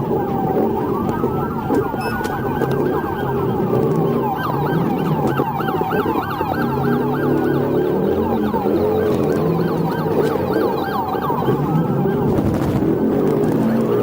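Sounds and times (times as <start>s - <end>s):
siren wailing: 0.0s - 14.0s
siren yelping: 0.0s - 14.0s
vehicle engine and road noise: 0.0s - 14.0s.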